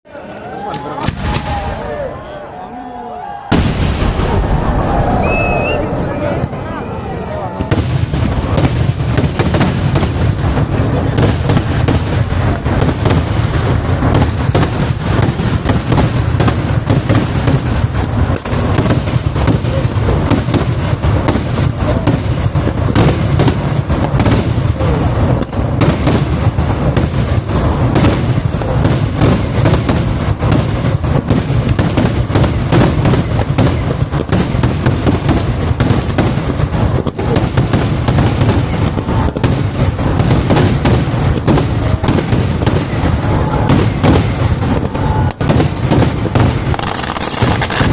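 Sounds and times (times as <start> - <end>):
fireworks explosions: 0.1 - 47.9.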